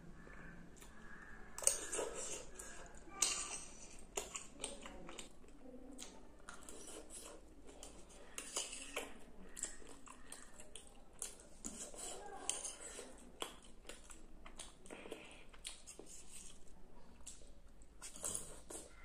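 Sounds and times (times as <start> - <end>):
chewing and slurping noodles: 0.8 - 19.0.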